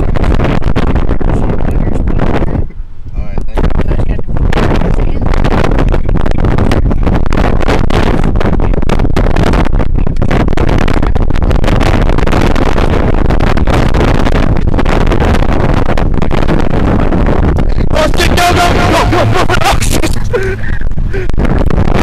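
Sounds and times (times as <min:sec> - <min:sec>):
car rumble from inside cabin: 0:00.0 - 0:22.0.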